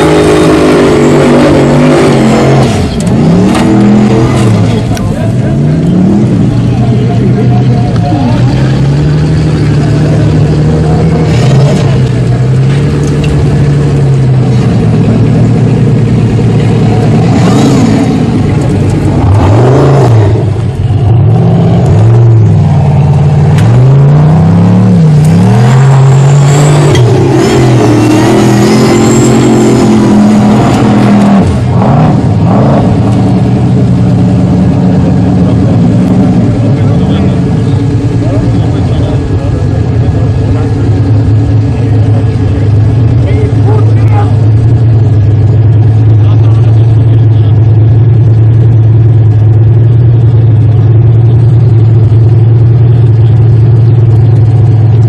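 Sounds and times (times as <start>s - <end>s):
buggy engine revving hard: 0.0s - 55.0s.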